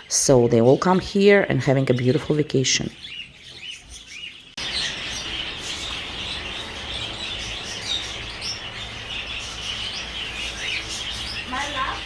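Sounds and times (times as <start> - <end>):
caged birds chirping and twittering: 0.0 - 12.0.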